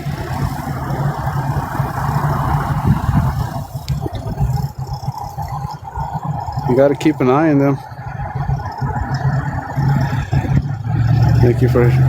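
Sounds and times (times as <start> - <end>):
road vehicle rumble: 0.0 - 12.0
tyres and engine rushing: 0.0 - 12.0.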